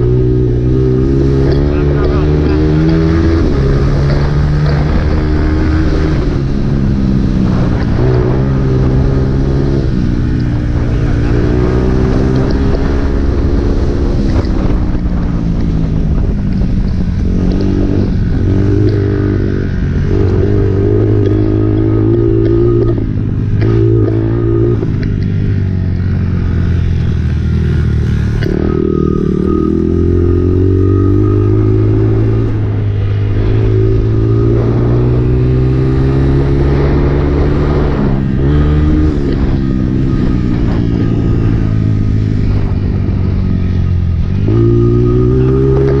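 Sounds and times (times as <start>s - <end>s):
dirt bike engine revving: 0.0s - 14.9s, 17.2s - 46.0s.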